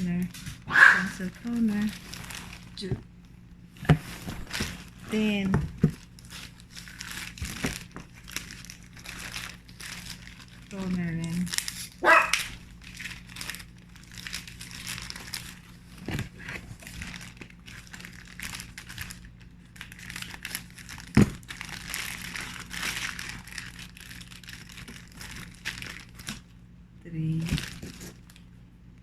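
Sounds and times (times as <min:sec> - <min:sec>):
packaging rustling and crinkling: 0:00.0 - 0:26.6, 0:27.3 - 0:28.5.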